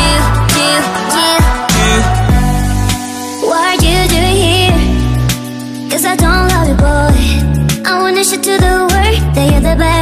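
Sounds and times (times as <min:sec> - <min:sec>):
background pop music: 0:00.0 - 0:10.0.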